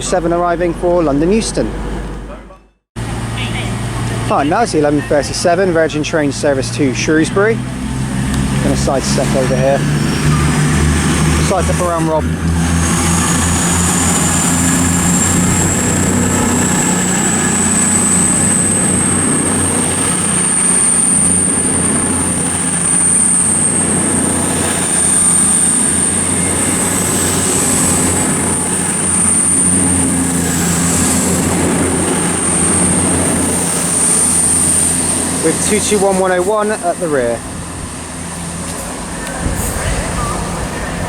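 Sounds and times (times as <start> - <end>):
diesel train engine drone: 0.0 - 41.0
high whine: 0.0 - 41.0.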